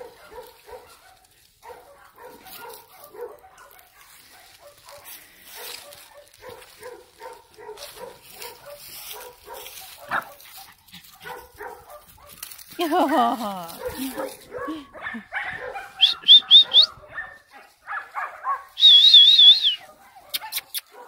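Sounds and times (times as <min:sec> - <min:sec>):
dogs barking: 0:00.0 - 0:12.5, 0:13.7 - 0:18.8, 0:19.7 - 0:21.0.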